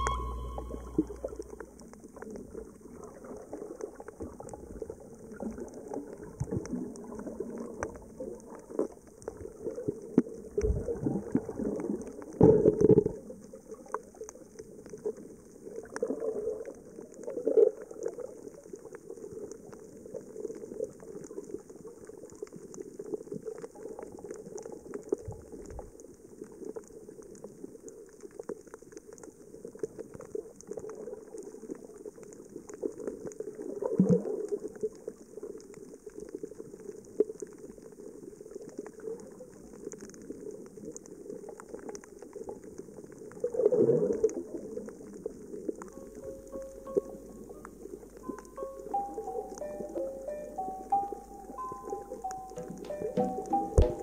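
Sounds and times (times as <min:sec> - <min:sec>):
crackle of small clicks underwater: 0:01.0 - 0:54.0.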